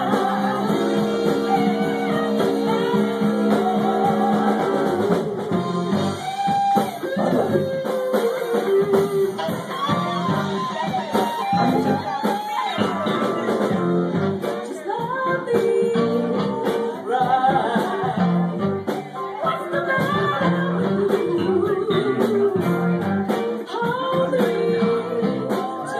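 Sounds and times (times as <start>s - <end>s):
electric guitar: 0.0s - 25.9s
live band music: 0.0s - 25.9s
woman singing into microphone: 0.0s - 25.9s.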